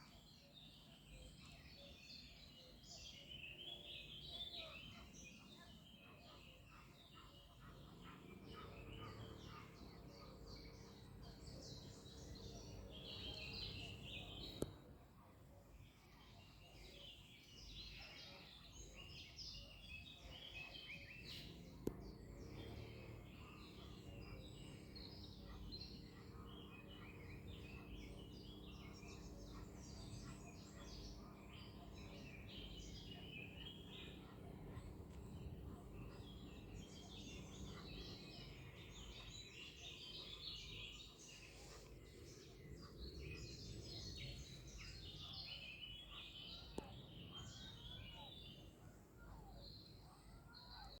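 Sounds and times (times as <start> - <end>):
small birds chirping: 0.0 - 51.0
low steady hum: 3.2 - 16.7, 19.0 - 51.0.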